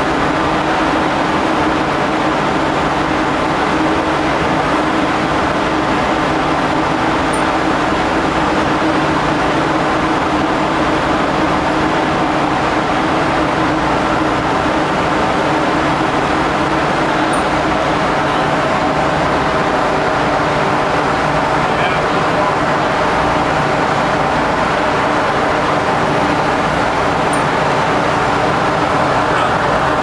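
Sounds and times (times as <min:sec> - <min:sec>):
ship machinery droning: 0:00.0 - 0:30.0.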